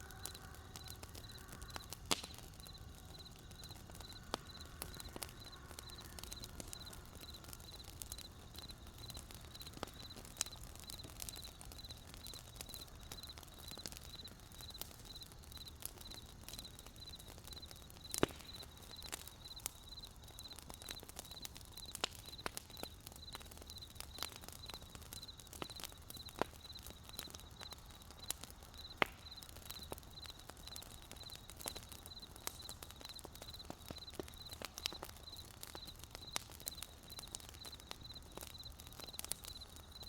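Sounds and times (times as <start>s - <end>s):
crickets chirping: 0.0s - 2.0s, 2.6s - 22.4s, 24.6s - 40.0s
wood campfire crackling: 0.0s - 40.0s.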